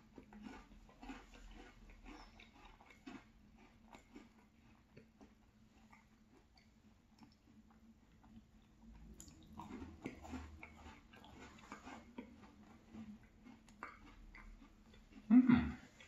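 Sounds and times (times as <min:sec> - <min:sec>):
chewing cookie: 0:00.0 - 0:16.0.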